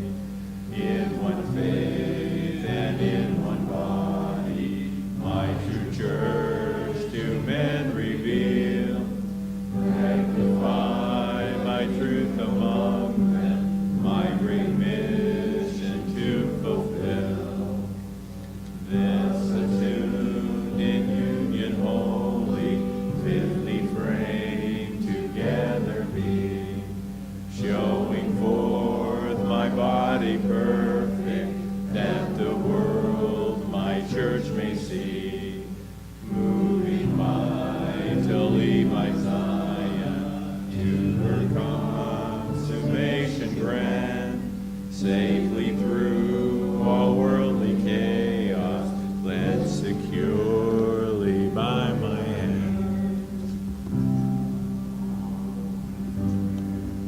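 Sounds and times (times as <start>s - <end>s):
congregation singing a hymn: 0.0s - 57.0s
instrumental accompaniment low note: 0.0s - 57.0s.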